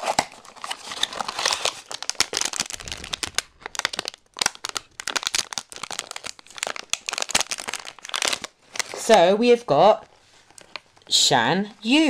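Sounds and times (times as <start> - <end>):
foil wrapper crinkling: 0.0 - 9.3, 10.0 - 11.1.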